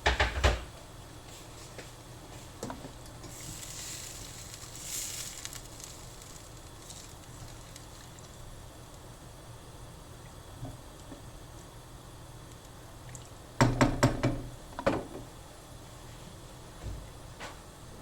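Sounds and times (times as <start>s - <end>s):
soft cooking hiss: 0.0s - 18.0s.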